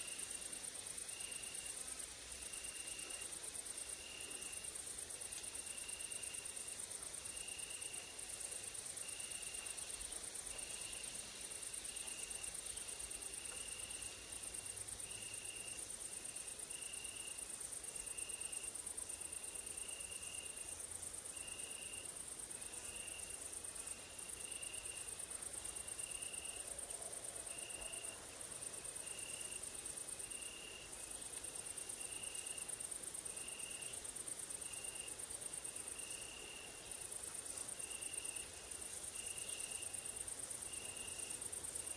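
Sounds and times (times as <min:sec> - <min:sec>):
insects trilling: 0:00.0 - 0:41.9
low insect chirp: 0:00.0 - 0:41.9.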